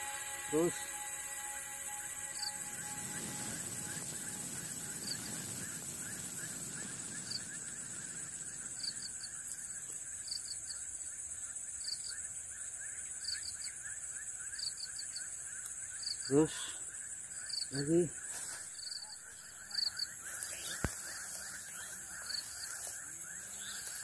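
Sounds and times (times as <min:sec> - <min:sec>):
fast even insect chirping: 0:00.0 - 0:24.0
insect high-pitched drone: 0:00.0 - 0:24.0
short insect chirps: 0:00.0 - 0:24.0.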